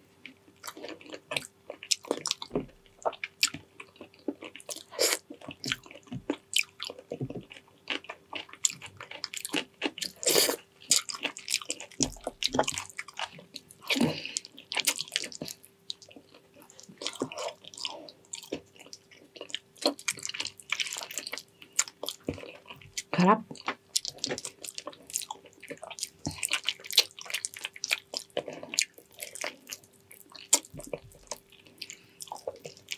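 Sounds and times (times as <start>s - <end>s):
person chewing and lip-smacking: 0.2s - 32.9s.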